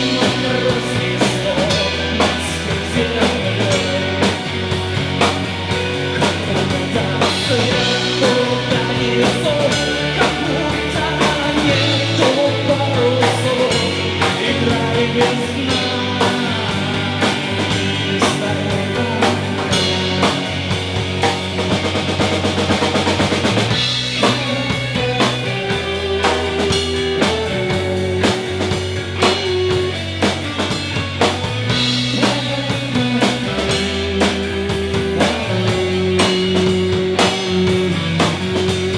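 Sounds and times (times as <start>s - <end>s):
drum kit beat: 0.0s - 38.9s
rock band playing: 0.0s - 38.9s.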